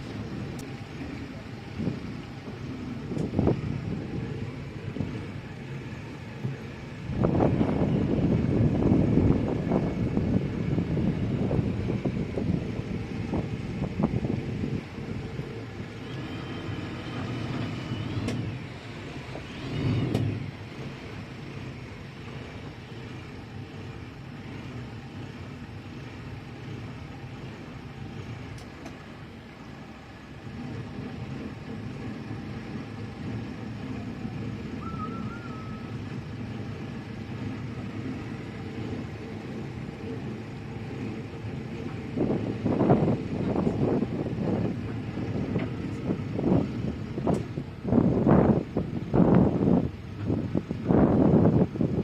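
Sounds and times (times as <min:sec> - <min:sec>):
boat engine rumbling: 0:00.0 - 0:52.0.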